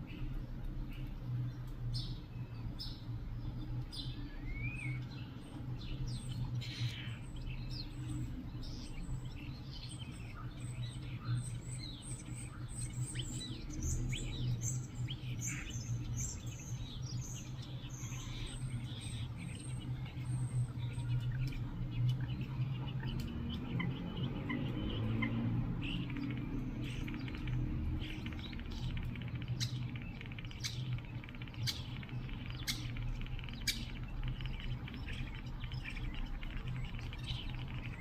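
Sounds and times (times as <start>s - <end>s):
small birds chirping: 0.0s - 38.0s
steady low hum: 0.0s - 38.0s.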